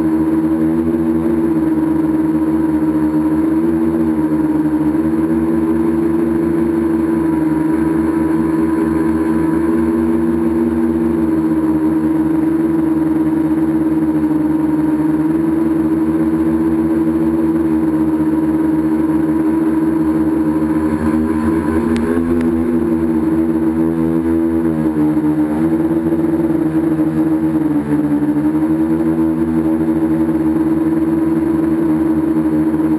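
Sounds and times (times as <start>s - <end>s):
drone motors and propellers humming: 0.0s - 32.9s.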